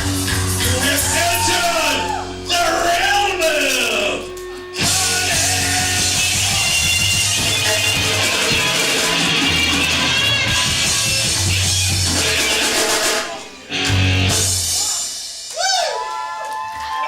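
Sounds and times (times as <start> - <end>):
punk rock band playing: 0.0 - 15.5.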